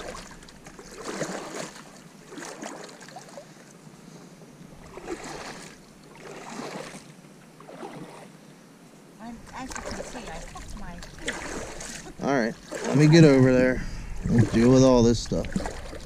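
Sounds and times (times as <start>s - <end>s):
kayak paddle splashing: 0.0s - 3.8s, 4.7s - 8.4s, 9.2s - 16.0s.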